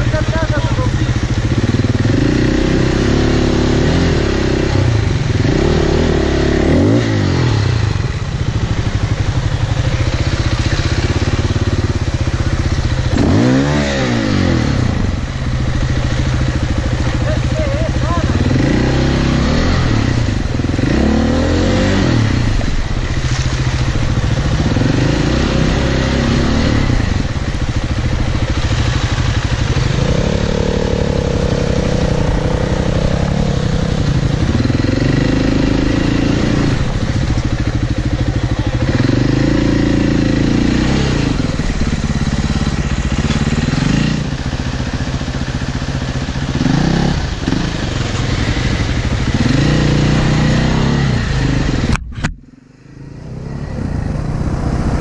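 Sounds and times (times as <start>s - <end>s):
tyres on water and gravel: 0.0s - 52.4s
motorcycle engine revving: 0.0s - 55.0s.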